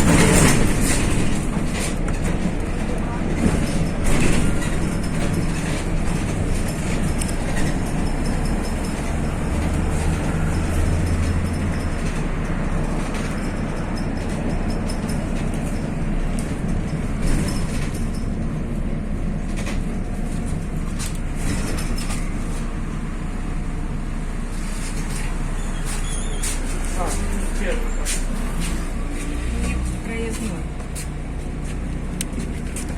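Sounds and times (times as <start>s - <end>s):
diesel bus engine hum: 0.0s - 32.9s
rattles and clicks from bus body: 0.0s - 32.9s
road noise: 0.0s - 32.9s.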